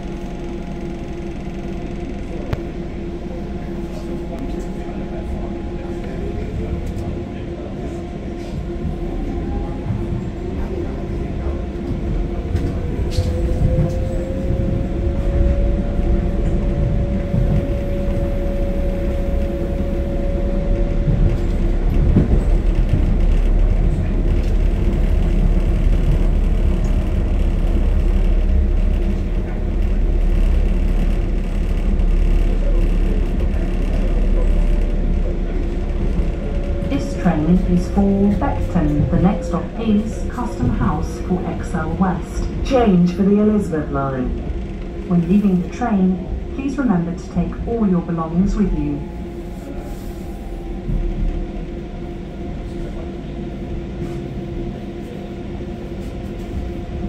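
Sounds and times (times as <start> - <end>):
train motor whine: 0.0 - 57.0
wheels rumbling on rail: 0.0 - 57.0.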